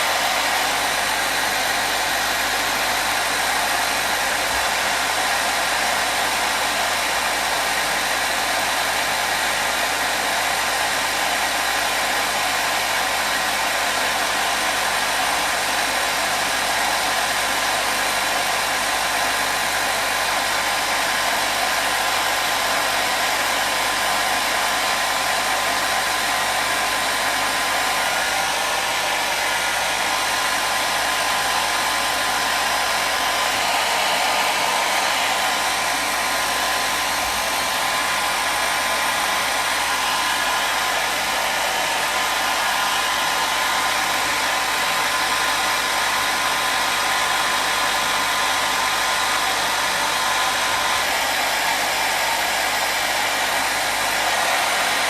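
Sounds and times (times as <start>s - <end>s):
hair dryer blowing air: 0.0s - 55.0s.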